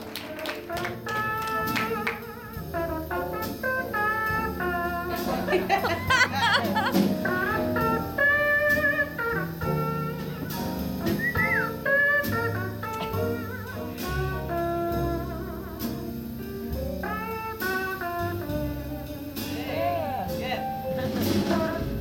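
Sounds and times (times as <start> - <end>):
jazz combo playing ballad: 0.0 - 22.0
walking bass line: 0.0 - 22.0.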